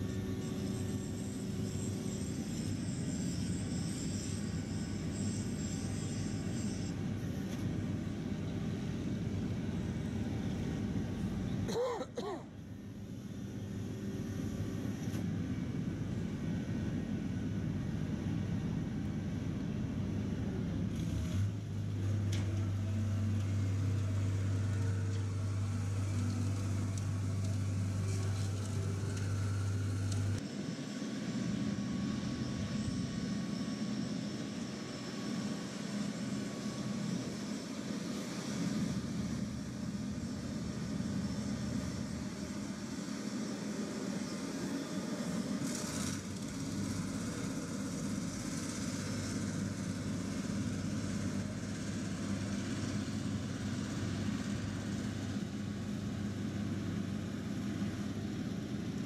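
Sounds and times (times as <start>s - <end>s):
engines low rumble: 0.0s - 59.0s.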